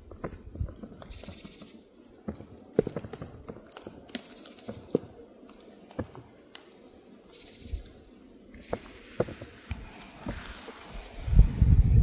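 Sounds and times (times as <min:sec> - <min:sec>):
dry leaves crackling and rustling: 0:00.0 - 0:11.2.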